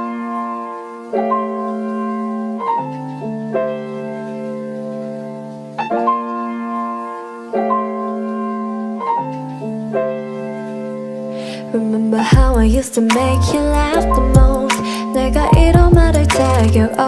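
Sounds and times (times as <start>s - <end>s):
keyboard chords: 0.0s - 17.0s.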